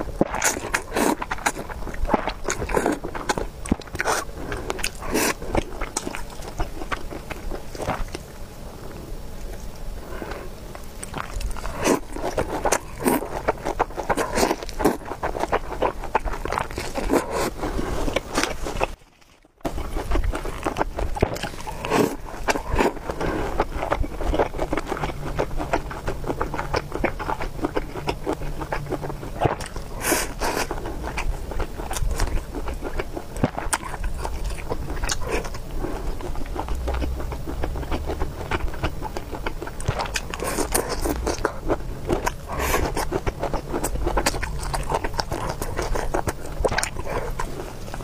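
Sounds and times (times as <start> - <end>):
chewing and wet mouth sounds: 0.0 - 48.0.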